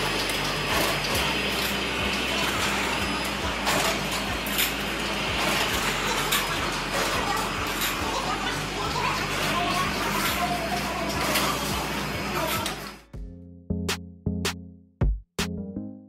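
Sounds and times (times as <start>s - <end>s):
mechanical clatter: 0.0s - 13.1s
steady motor hum: 0.0s - 13.2s.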